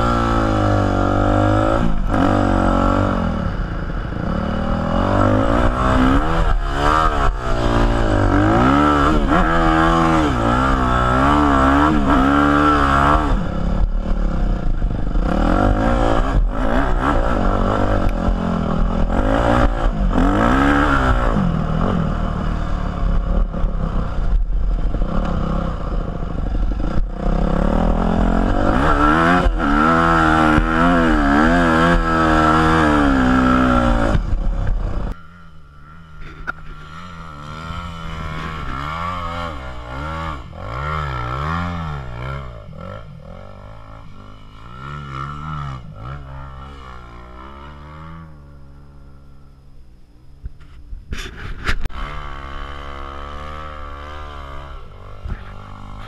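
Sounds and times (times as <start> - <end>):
motocross bike engine revving: 0.0 - 49.9, 51.2 - 56.0.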